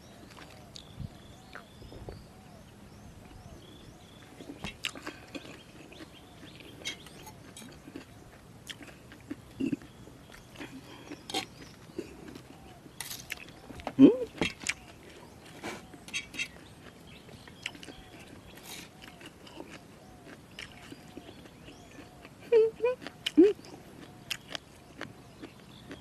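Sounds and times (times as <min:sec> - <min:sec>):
bird calls: 0:00.0 - 0:08.4, 0:09.5 - 0:26.0
chewing crunchy food: 0:00.1 - 0:02.2, 0:03.3 - 0:26.0.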